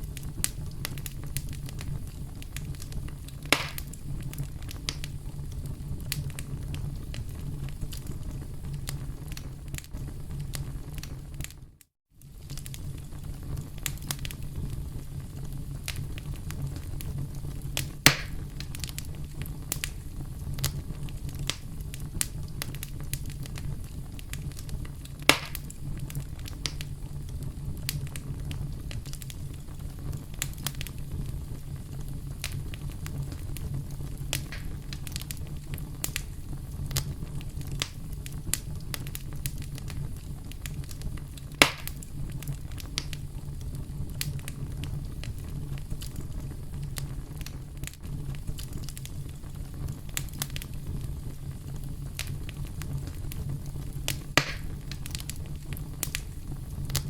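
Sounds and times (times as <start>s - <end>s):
campfire crackling: 0.0s - 57.0s
loud fire pops: 0.0s - 57.0s.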